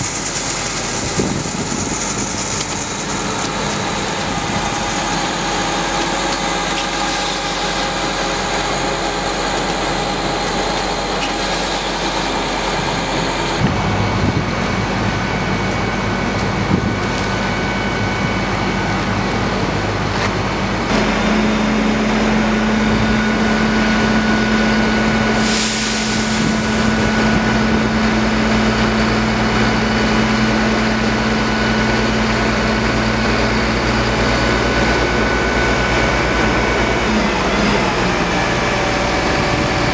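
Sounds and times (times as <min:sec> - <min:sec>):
truck engine humming: 0:00.0 - 0:39.9.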